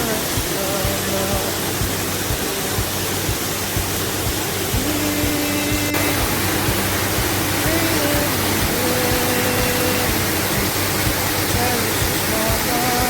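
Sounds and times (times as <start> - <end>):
faint background music: 0.0 - 13.0
waterfall rushing: 0.0 - 13.0.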